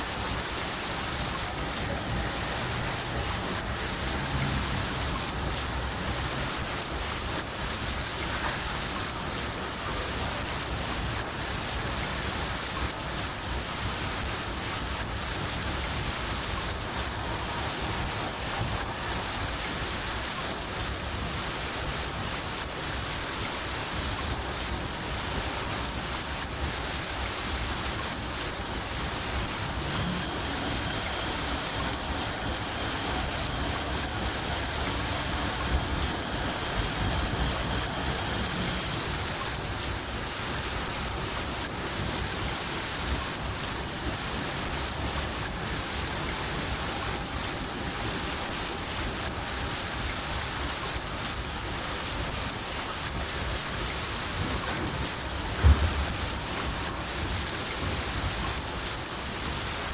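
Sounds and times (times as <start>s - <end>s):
crickets chirping: 0.0s - 59.9s
steady hiss of rain: 0.0s - 59.9s.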